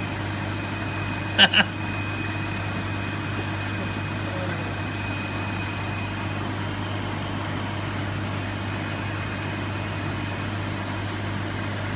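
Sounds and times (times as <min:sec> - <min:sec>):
aquarium pump hum: 0:00.0 - 0:11.9.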